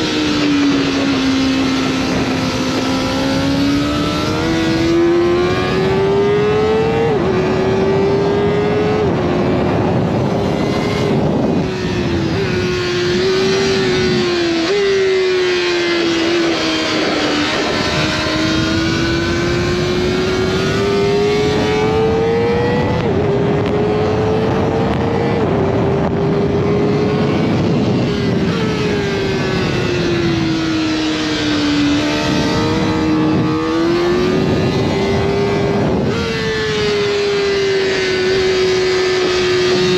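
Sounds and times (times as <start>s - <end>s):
motorcycle engine revving through gears: 0.0s - 39.9s
wind noise: 0.0s - 39.9s.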